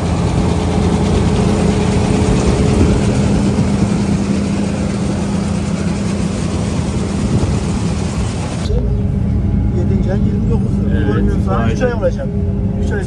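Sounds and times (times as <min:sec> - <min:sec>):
large engine droning: 0:00.0 - 0:13.0.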